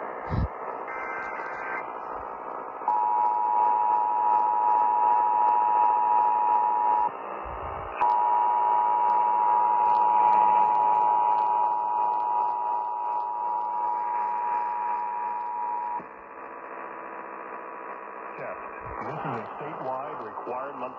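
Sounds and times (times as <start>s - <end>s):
radio hiss: 0.0s - 3.8s, 7.1s - 20.9s.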